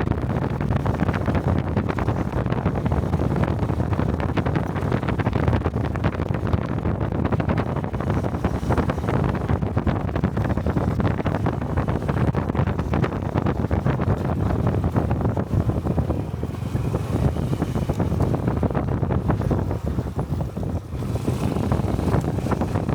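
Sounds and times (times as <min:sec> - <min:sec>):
motorcycle engine running: 0:00.0 - 0:22.9
wind buffeting microphone: 0:00.0 - 0:22.9.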